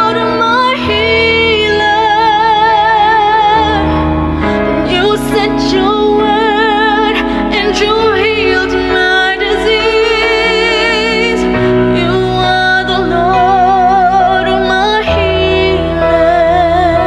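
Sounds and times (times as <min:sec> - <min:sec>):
piano chords: 0:00.0 - 0:17.0
woman singing ballad: 0:00.0 - 0:17.0.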